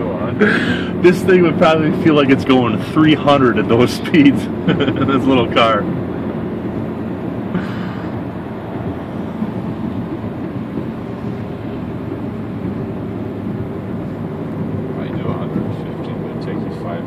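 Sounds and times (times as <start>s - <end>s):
car engine running: 0.0s - 17.0s
road and wind noise: 0.0s - 17.0s.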